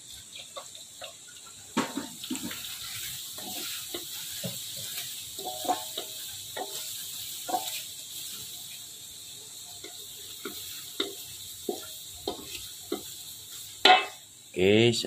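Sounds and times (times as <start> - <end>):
food sizzling in oil: 0.0 - 15.0
wooden spatula scraping a wok: 0.1 - 9.1, 9.8 - 14.2.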